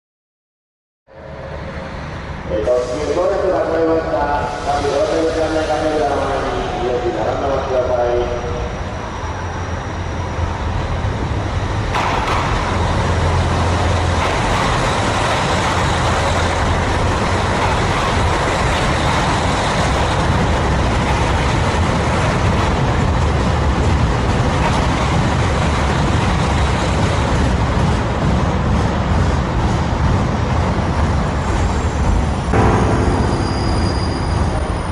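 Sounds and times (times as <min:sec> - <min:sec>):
diesel train rumbling on rails: 0:01.1 - 0:34.9.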